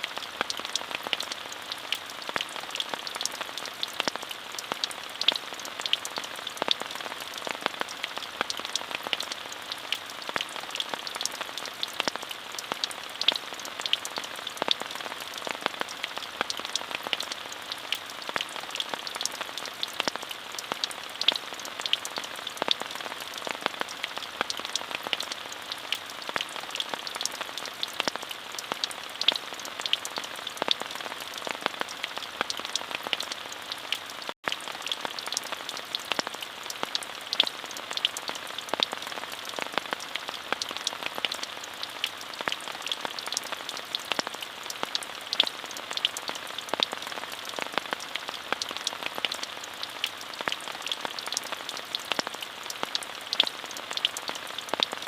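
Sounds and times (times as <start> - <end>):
steady rain with ticking drops: 0.0 - 55.0.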